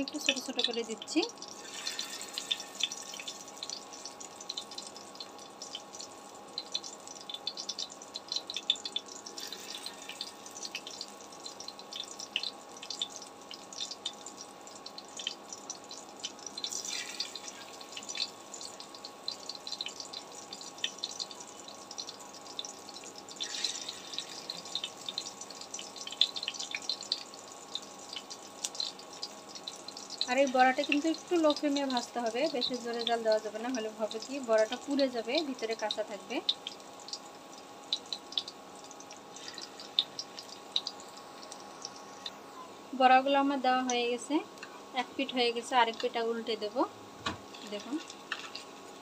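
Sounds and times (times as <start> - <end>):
batter sizzling in hot oil: 0.0 - 49.0
low steady hum: 0.0 - 49.0.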